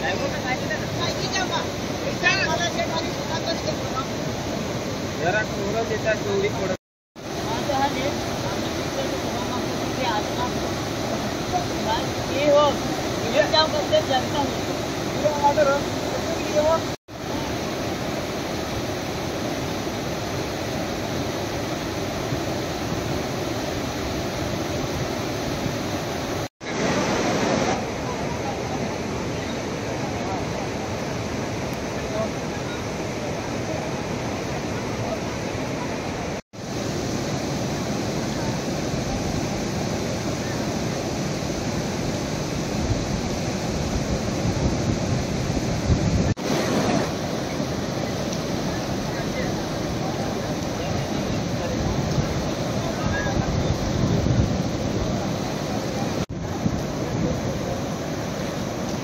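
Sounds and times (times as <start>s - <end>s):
floodwater rushing in rapids: 0.0s - 59.0s.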